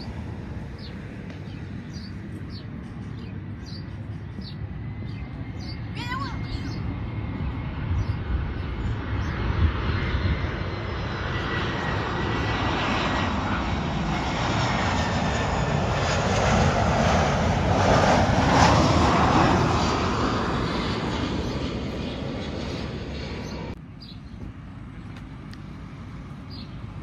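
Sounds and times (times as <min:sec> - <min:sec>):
jet airliner passing overhead: 0:00.0 - 0:27.0.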